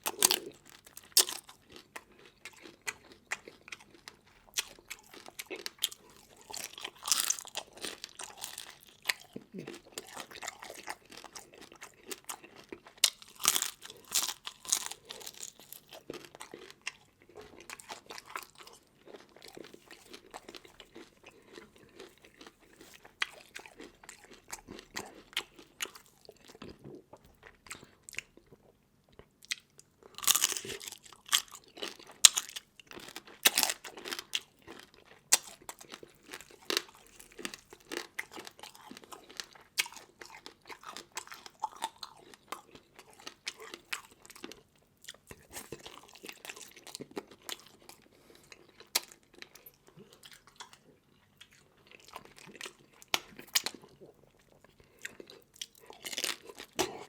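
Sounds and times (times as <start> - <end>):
person chewing and crunching: 0.0 - 57.0.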